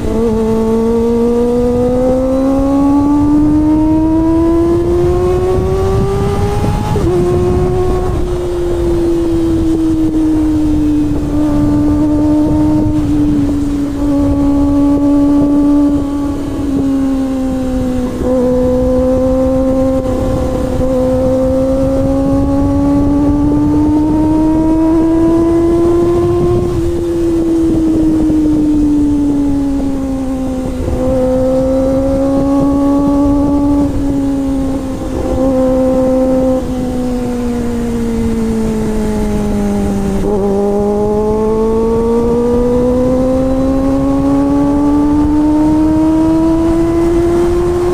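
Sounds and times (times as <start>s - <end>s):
motorcycle engine at high revs: 0.0s - 47.9s.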